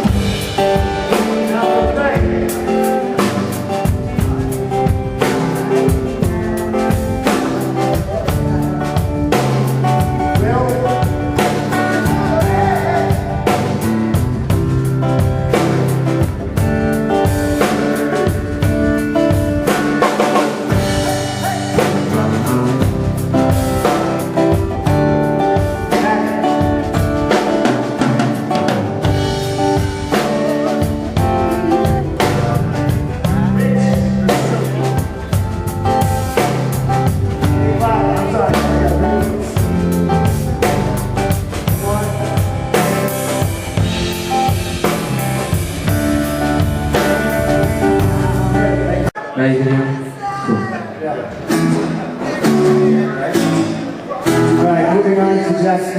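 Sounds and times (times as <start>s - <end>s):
drum kit hits: 0.0s - 48.8s
keyboard chords: 0.0s - 50.0s
sustained guitar chords: 0.0s - 50.0s
live rock band playing: 0.0s - 55.9s.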